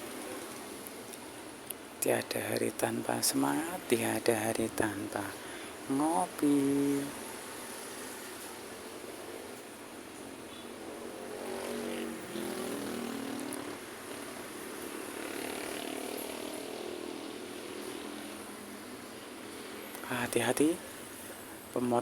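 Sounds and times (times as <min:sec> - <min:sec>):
vehicles passing by: 0:00.0 - 0:22.0.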